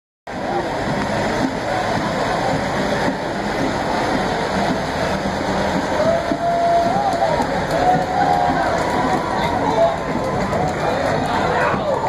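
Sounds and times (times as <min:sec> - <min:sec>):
truck diesel engine running: 0:00.3 - 0:12.0.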